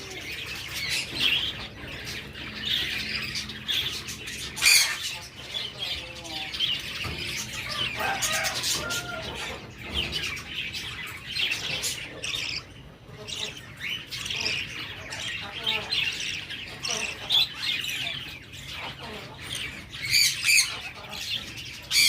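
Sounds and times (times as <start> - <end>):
budgerigar chicks chirping: 0.0 - 22.0.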